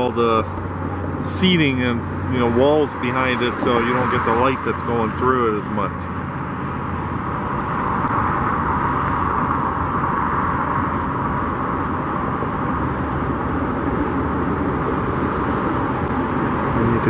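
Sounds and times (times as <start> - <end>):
steady traffic noise: 0.0 - 17.0.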